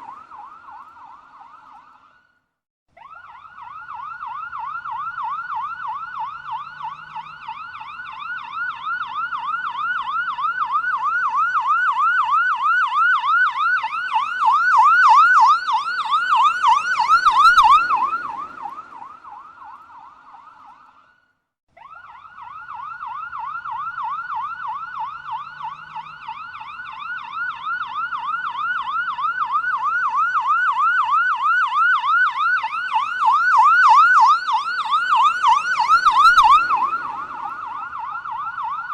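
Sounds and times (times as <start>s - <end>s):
police siren yelping: 0.0s - 2.2s, 3.0s - 21.0s, 21.8s - 38.9s.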